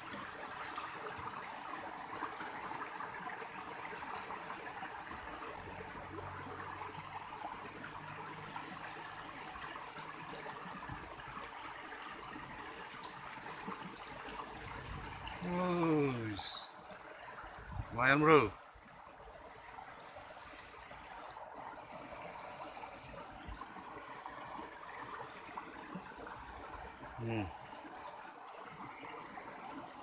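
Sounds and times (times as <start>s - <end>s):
water flowing in channel: 0.0s - 30.0s.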